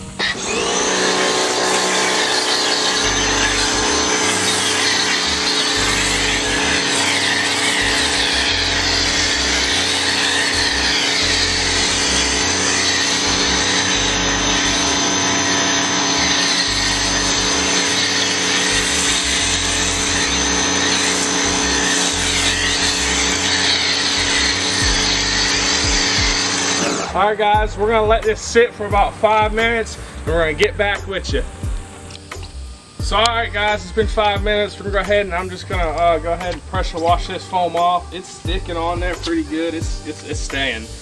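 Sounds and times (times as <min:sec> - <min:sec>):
pressure washer motor hum: 0:00.0 - 0:41.0
foam spraying hiss: 0:00.9 - 0:27.5, 0:31.9 - 0:41.0.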